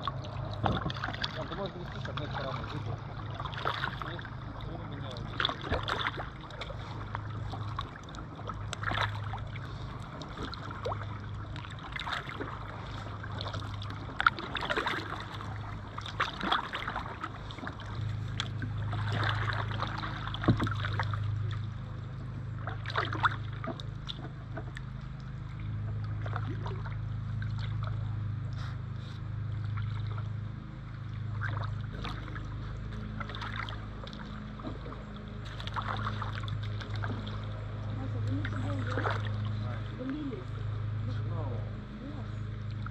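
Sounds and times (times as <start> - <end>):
drips and small splashes: 0.0 - 42.9
paddle dipping into water: 0.0 - 42.9
steady low hum: 0.0 - 42.9.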